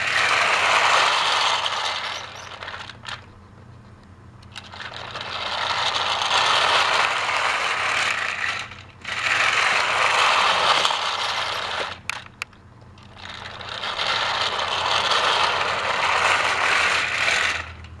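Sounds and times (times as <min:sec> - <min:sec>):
toy train motor whirring: 0:00.0 - 0:03.4, 0:04.4 - 0:18.0
toy train trucks clattering: 0:00.0 - 0:03.4, 0:04.4 - 0:18.0.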